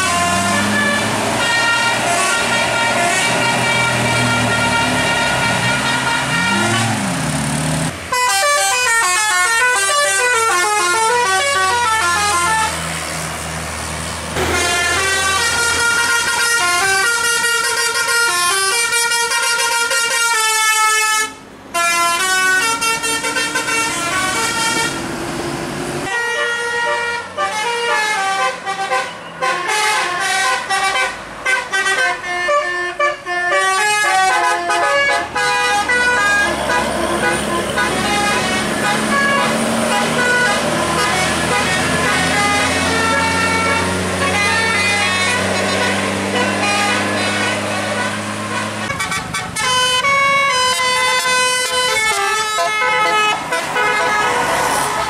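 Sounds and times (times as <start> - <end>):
bus horns playing melodic runs: 0.0 - 13.2, 14.4 - 25.3, 26.0 - 55.0
diesel engine noise: 0.0 - 55.0.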